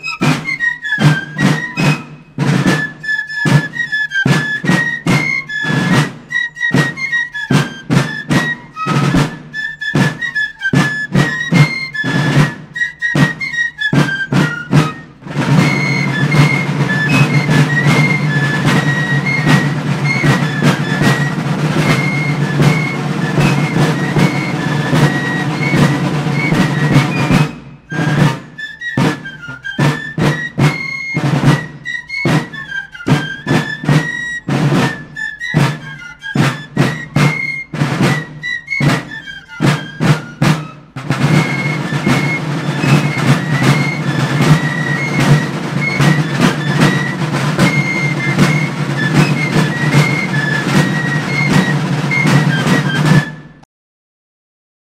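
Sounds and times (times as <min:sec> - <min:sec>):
drum strikes: 0:00.0 - 0:53.6
high wind instrument melody: 0:00.0 - 0:53.6.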